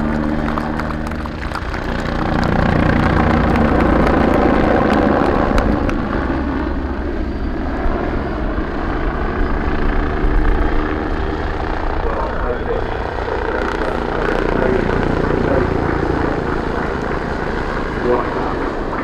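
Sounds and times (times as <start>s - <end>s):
helicopter engines running: 0.0s - 19.0s
helicopter rotor chop: 0.0s - 19.0s.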